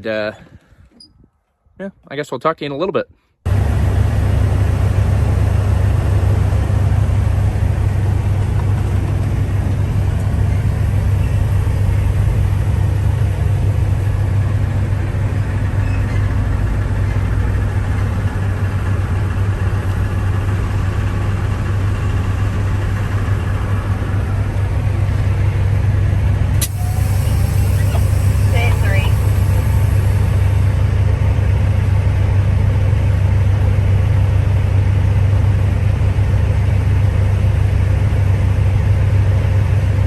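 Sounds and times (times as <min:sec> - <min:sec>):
diesel truck engine humming: 0:03.5 - 0:40.0.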